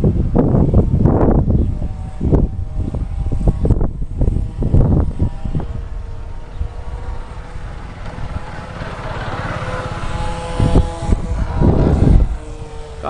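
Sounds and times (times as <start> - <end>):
model plane propeller buzzing: 0.0 - 13.0
wind buffeting microphone: 0.0 - 13.0.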